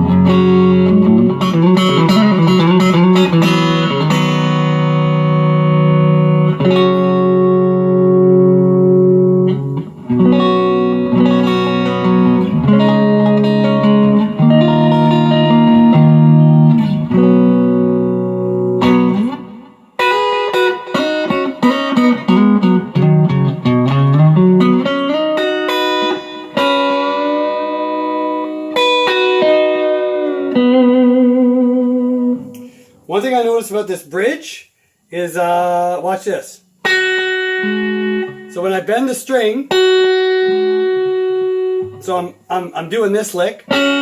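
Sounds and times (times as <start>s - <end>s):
electric guitar through amp: 0.0s - 33.1s, 36.8s - 42.7s, 43.6s - 44.0s.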